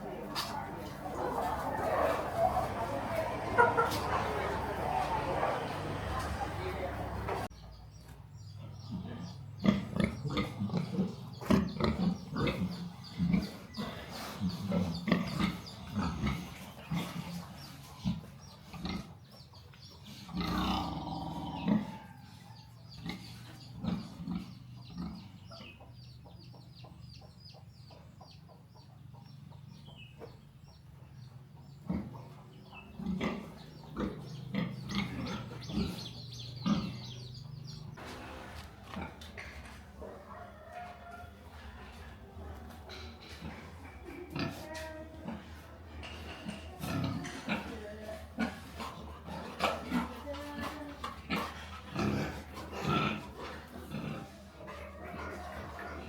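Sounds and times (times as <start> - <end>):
pigs grunting: 0.0 - 7.5, 8.5 - 26.4, 31.2 - 40.3, 41.5 - 56.0.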